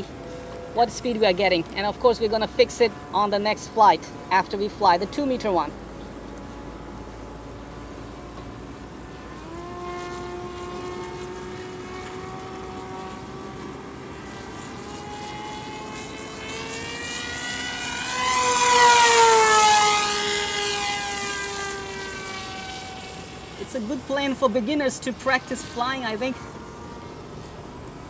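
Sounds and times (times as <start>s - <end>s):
model plane motor whining: 0.0s - 28.0s.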